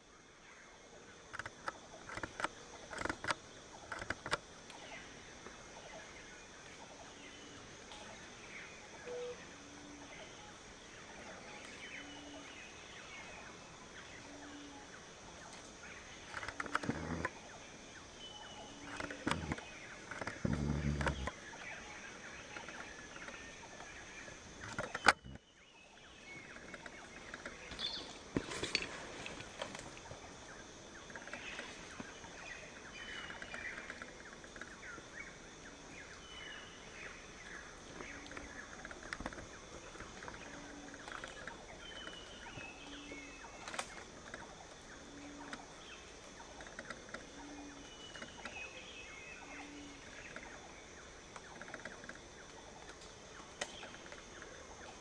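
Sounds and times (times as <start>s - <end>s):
birds calling and chattering: 0.0s - 55.0s.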